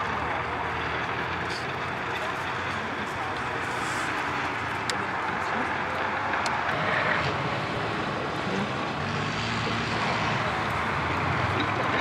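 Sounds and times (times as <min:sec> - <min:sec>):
tank engine drone: 0:00.0 - 0:12.0
tank tracks rumbling: 0:00.0 - 0:12.0.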